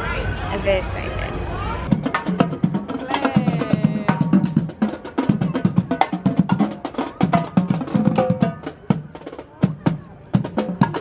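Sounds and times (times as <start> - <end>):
marching drum line: 1.9 - 11.0.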